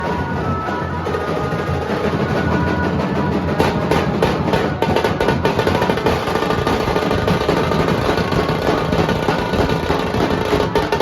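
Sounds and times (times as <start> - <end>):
dhol drums: 0.0 - 11.0
tasha snare drums: 1.1 - 11.0.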